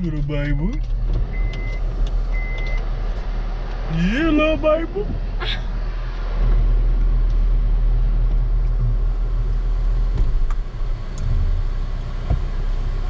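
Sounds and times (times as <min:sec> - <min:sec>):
car engine rumble in cabin: 0:00.0 - 0:13.0.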